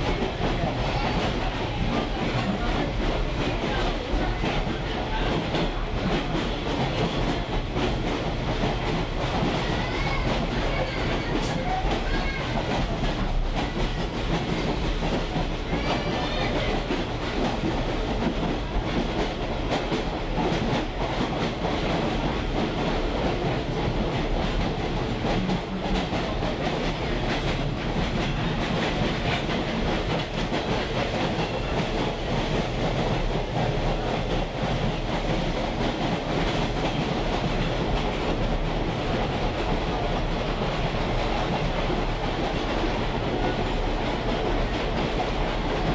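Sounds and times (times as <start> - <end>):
clickety-clack over rail joints: 0.0 - 45.9
train wheels rumbling on rail: 0.0 - 45.9.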